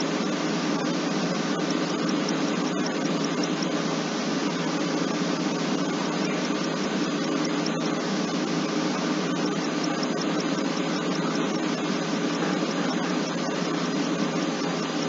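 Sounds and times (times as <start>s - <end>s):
steady rushing fan noise: 0.0s - 15.0s.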